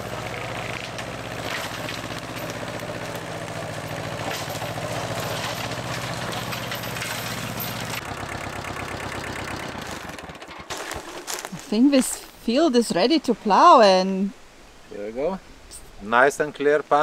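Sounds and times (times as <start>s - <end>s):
tractor engine cutting grass: 0.0s - 13.8s.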